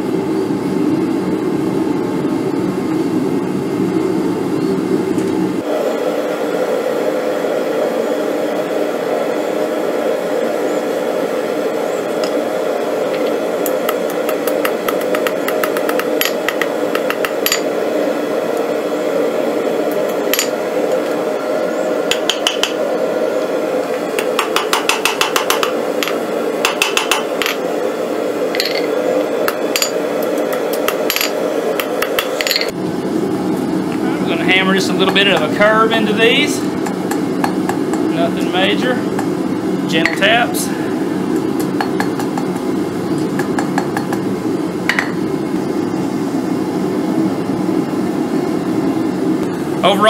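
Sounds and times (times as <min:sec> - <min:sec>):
gas forge roaring: 0:00.0 - 0:50.0.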